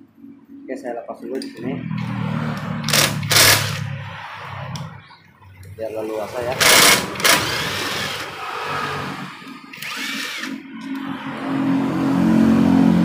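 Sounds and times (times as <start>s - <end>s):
engine hum: 1.5s - 13.0s.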